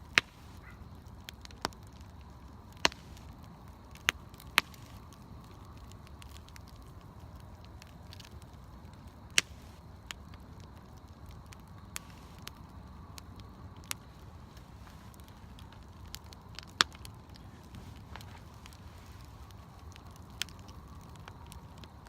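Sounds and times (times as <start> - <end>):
campfire pops and crackles: 0.0 - 22.0
low hiss and rumble: 0.0 - 22.0.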